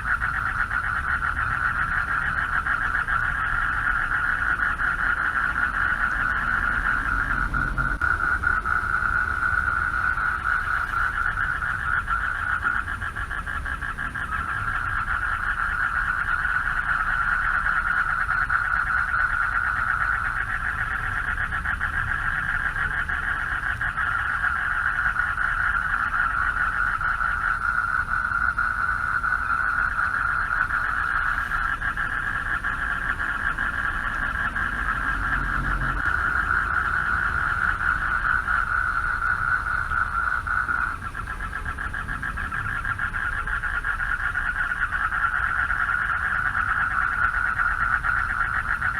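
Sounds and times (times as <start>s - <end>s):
frogs trilling: 0.0s - 48.9s
low steady rumble: 0.0s - 48.9s.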